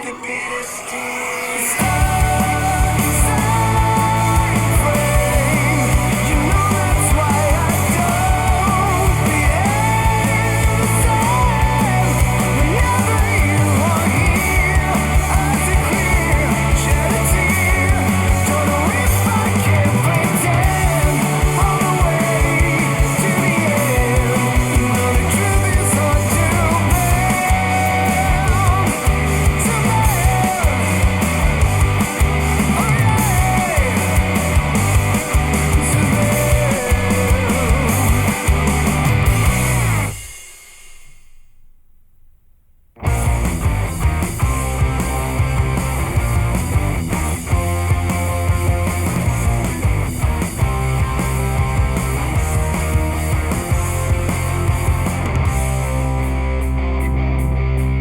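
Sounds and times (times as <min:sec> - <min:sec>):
rock music through headphones: 0:00.0 - 0:58.0.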